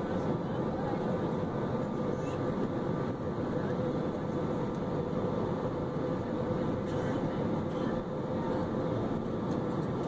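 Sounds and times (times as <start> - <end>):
jet engines and airflow rushing: 0.0 - 10.0.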